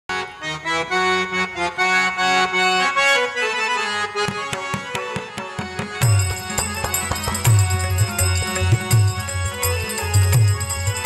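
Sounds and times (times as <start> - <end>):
harmonium melody: 0.1 - 11.0.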